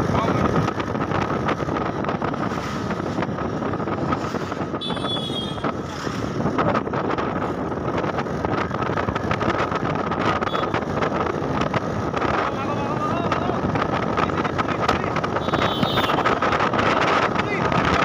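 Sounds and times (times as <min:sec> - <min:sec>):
passing traffic: 0:00.0 - 0:18.0
wind buffeting microphone: 0:00.0 - 0:18.0.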